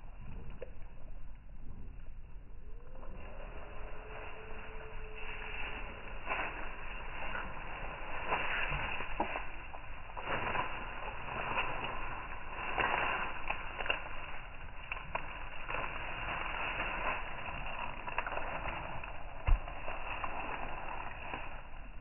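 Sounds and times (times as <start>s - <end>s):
leaves rustling and crackling: 2.7s - 22.0s.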